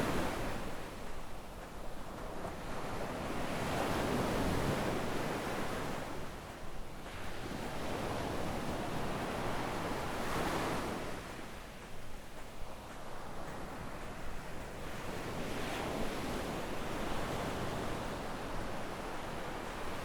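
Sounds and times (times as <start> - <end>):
waves washing up a beach: 0.0 - 20.0.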